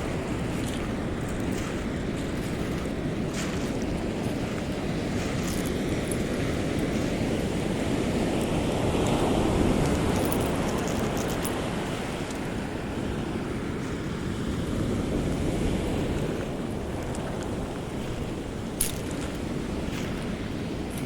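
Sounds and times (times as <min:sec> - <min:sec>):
ocean surf breaking: 0:00.0 - 0:21.0
wind rumbling on microphone: 0:00.0 - 0:21.0.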